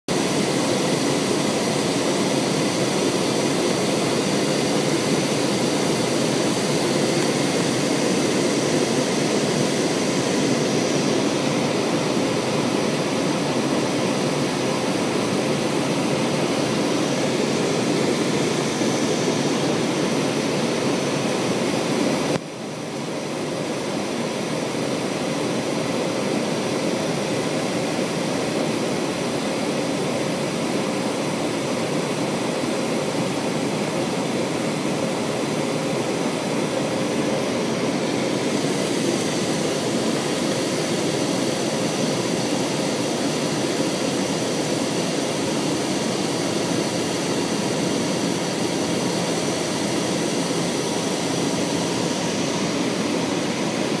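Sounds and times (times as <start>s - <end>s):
jet cabin engine rush: 0.1s - 54.0s.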